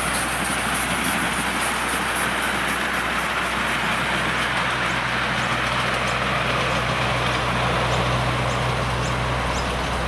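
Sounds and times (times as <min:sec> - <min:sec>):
model train running and rolling: 0:00.0 - 0:10.0.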